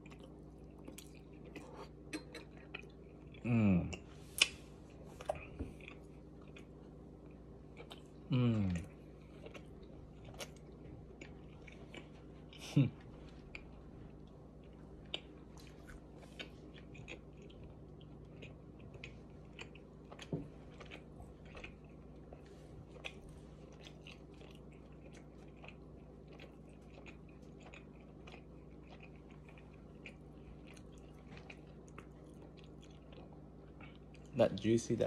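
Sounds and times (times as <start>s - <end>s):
wet chewing clicks and smacks: 0.0s - 12.6s, 13.2s - 34.8s
steady low hum: 0.0s - 35.0s.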